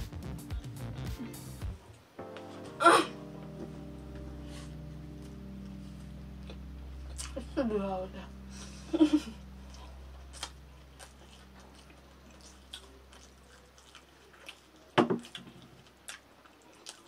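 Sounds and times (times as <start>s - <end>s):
people chewing and eating: 0.0s - 7.6s, 8.3s - 17.0s.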